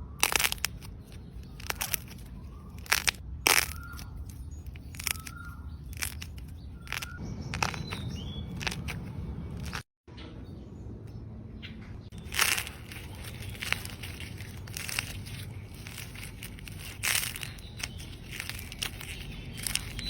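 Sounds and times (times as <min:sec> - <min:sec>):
dry clay cracking and crumbling: 0:00.1 - 0:09.9, 0:12.1 - 0:20.0.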